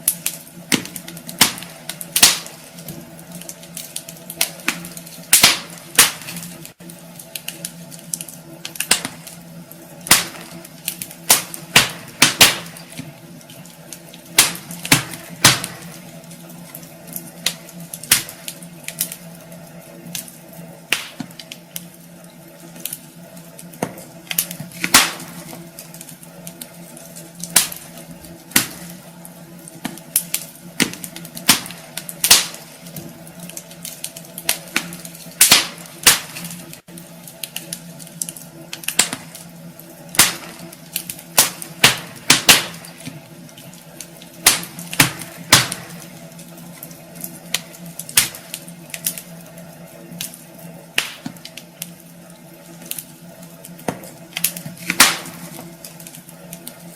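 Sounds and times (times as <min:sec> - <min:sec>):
logs crackling and popping: 0:00.0 - 0:56.9.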